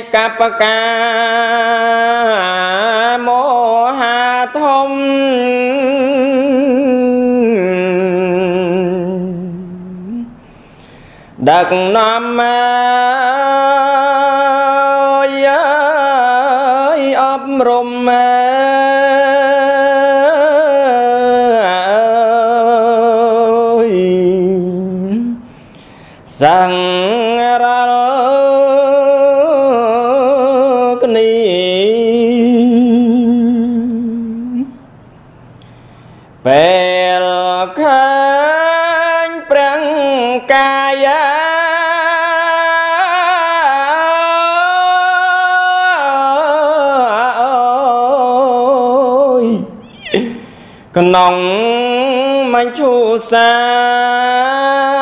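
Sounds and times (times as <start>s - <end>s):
man chanting: 0.0s - 10.4s, 11.4s - 25.5s, 26.3s - 34.8s, 36.4s - 55.0s.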